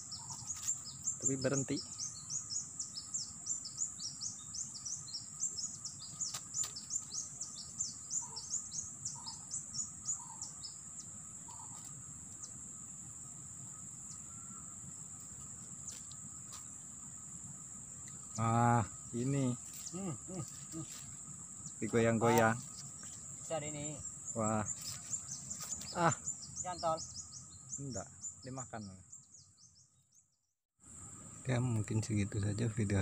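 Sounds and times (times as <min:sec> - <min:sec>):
bird chirping: 0:00.0 - 0:30.4
insect droning: 0:00.0 - 0:33.0.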